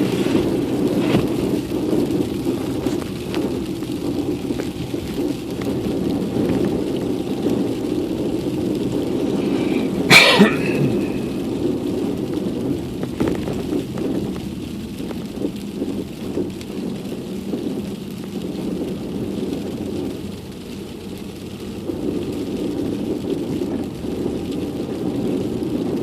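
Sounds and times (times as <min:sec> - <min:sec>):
car driving through snow: 0:00.0 - 0:26.0.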